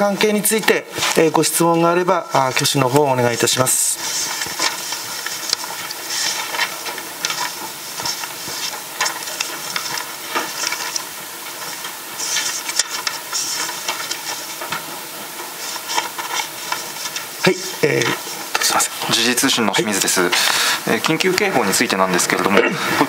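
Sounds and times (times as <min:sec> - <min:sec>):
steady hiss: 0:00.0 - 0:23.0
paper rustling: 0:00.3 - 0:22.5.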